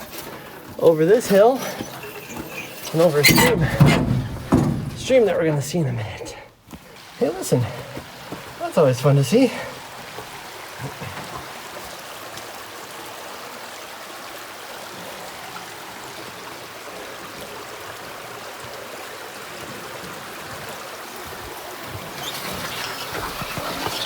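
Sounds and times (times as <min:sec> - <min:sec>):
stream flowing over rocks: 0:00.0 - 0:24.0.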